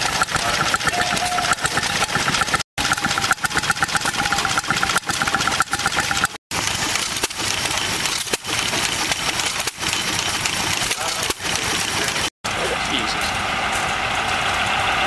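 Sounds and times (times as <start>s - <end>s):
drag saw cutting log: 0.0s - 14.8s
stationary engine running: 0.0s - 15.0s.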